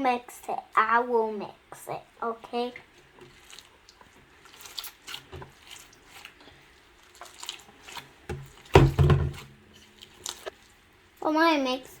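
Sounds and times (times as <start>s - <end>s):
slime squelching by hand: 2.3s - 12.0s.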